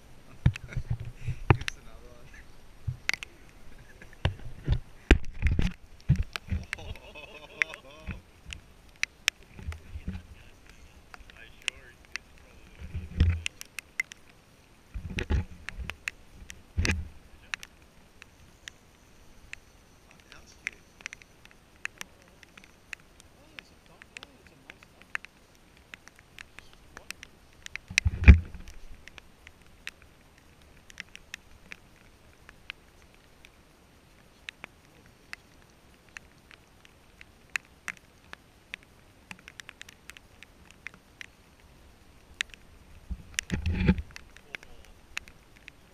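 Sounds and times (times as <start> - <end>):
sharp ticks: 0.0 - 45.9.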